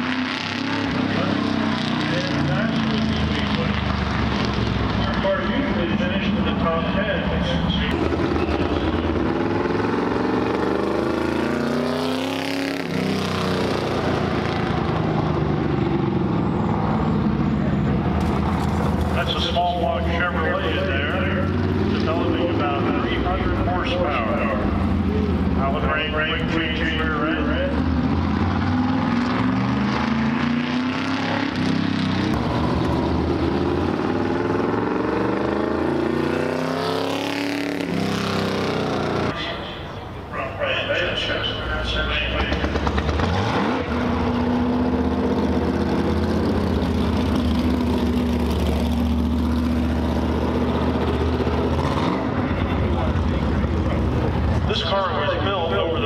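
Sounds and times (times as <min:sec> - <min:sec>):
race car engine passing: 0:00.0 - 0:56.0.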